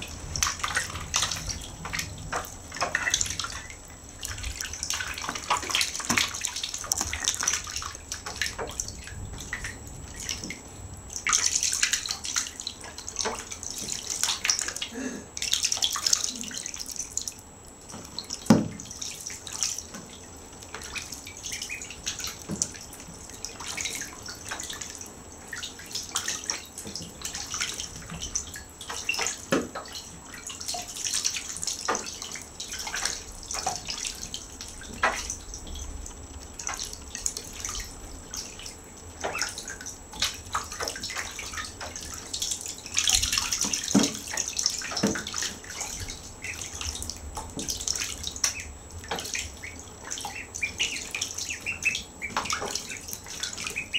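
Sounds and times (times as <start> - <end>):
ducklings splashing in water: 0.0 - 53.9.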